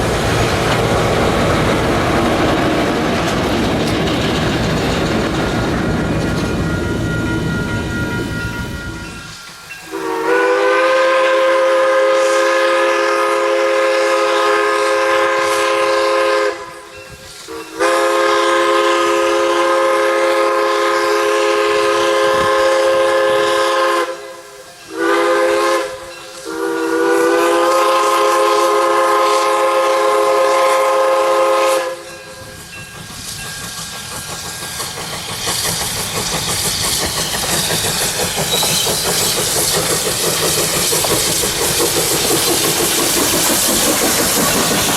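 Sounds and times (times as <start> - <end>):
steam hissing: 0.0 - 44.9
train running noise: 0.0 - 44.9
steam locomotive chime whistle: 5.8 - 43.1.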